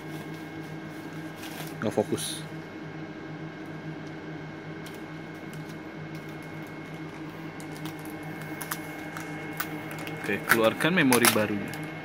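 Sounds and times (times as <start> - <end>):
hum of running equipment: 0.0 - 12.0.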